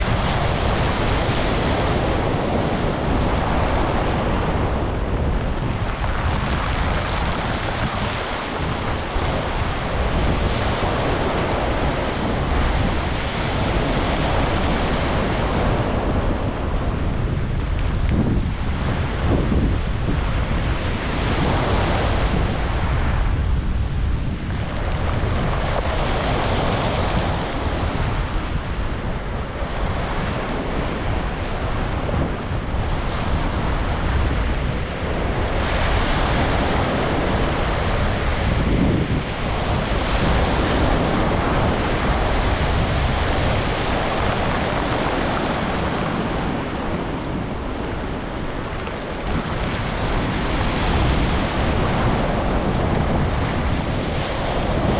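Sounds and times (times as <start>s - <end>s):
constant low rumble: 0.0s - 54.9s
waves breaking on beach: 0.0s - 54.9s.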